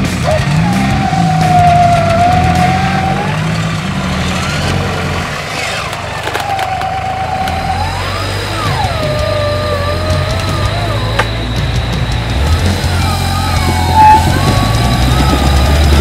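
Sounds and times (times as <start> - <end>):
electric winch whining: 0.0 - 16.0
engine running low and steady: 0.0 - 16.0.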